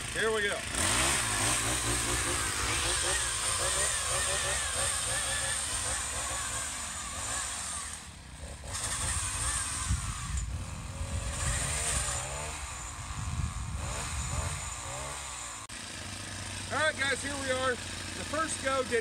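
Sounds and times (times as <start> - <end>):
pole saw engine revving: 0.0 - 19.0.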